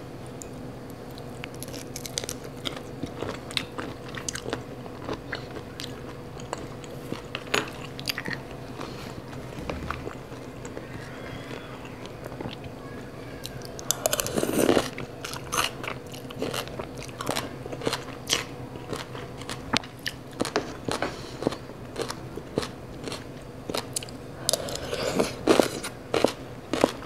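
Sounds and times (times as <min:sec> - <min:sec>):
crunchy chewing: 0:01.1 - 0:27.0.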